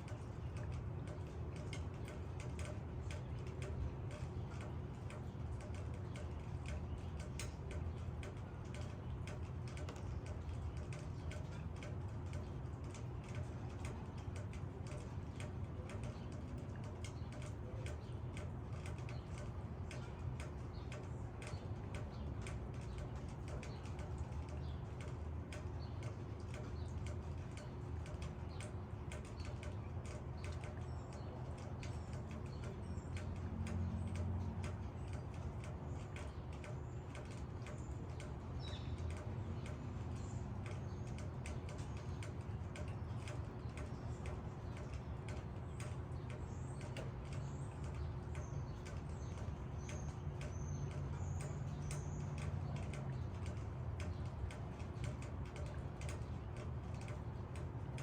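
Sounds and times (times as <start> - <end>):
raindrops pattering on leaves: 0.0 - 58.0.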